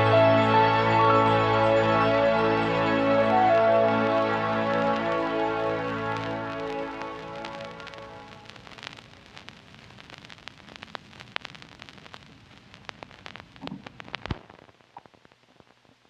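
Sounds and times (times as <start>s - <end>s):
vinyl crackle and pops: 0.8s - 16.0s.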